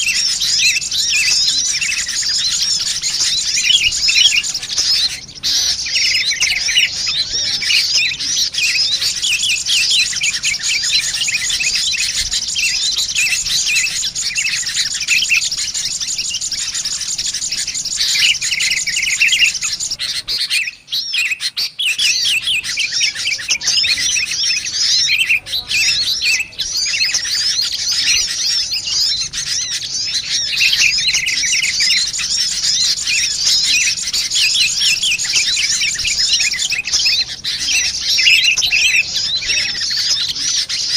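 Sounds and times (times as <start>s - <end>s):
bulbuls calling: 0.0s - 40.9s
sunbirds chattering: 0.0s - 40.9s.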